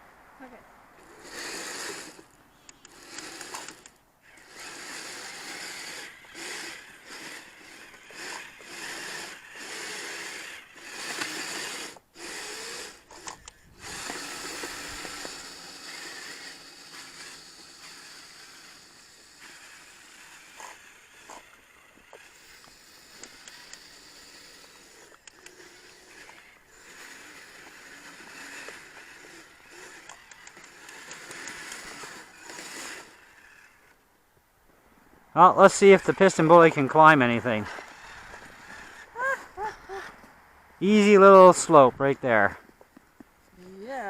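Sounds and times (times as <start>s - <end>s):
radio-controlled tracked vehicles whirring: 0.4s - 34.0s, 35.4s - 40.2s, 40.8s - 42.6s, 43.6s - 44.0s.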